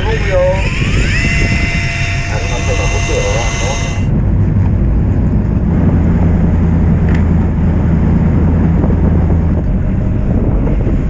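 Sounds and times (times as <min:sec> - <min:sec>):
boat engine droning: 0:00.0 - 0:11.0
water noise: 0:00.0 - 0:11.0
wind: 0:00.0 - 0:11.0.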